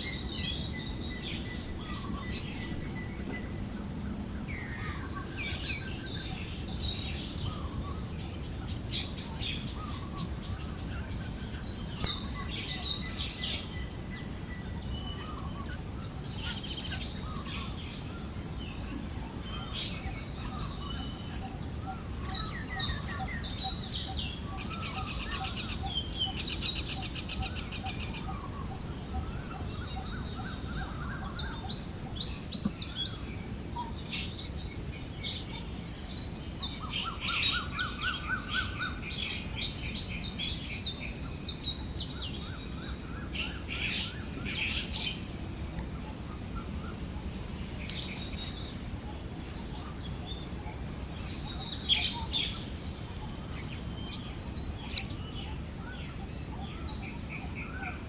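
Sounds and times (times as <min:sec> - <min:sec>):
birds chirping and trilling: 0:00.0 - 0:58.0
high insect drone: 0:00.0 - 0:58.0
soft breeze: 0:00.0 - 0:58.0.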